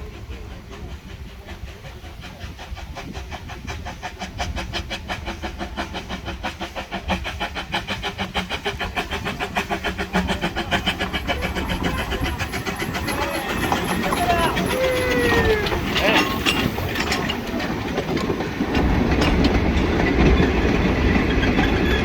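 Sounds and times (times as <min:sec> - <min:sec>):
steam locomotive exhaust beats: 0:00.0 - 0:22.0.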